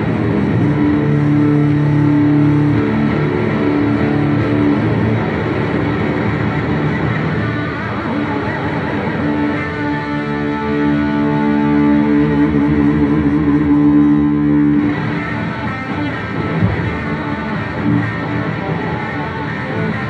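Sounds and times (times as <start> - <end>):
electric guitar chord ringing: 0.0 - 20.0
live rock band: 0.0 - 20.0.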